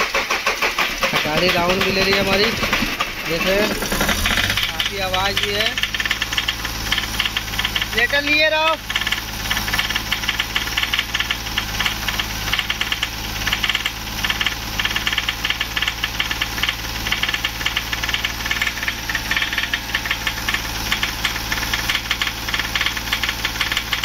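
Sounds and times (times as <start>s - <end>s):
car engine running: 0.0s - 24.0s
rapid tapping engine knock: 0.0s - 24.0s.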